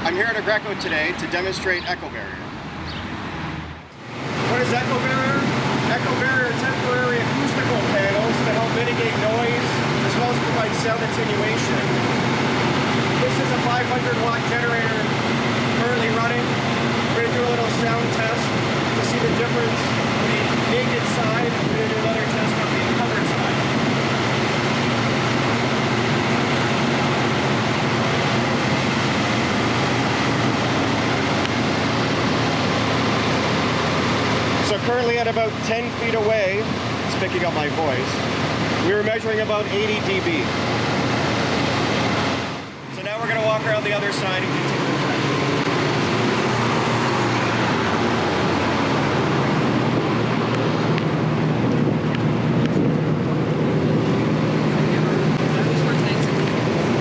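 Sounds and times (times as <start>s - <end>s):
generator engine drone: 0.0s - 57.0s.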